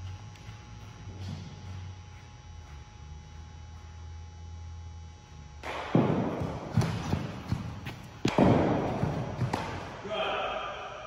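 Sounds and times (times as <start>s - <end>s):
baseball bouncing and fielded: 0.0s - 4.3s, 5.2s - 11.0s
steady low hum: 0.0s - 11.0s.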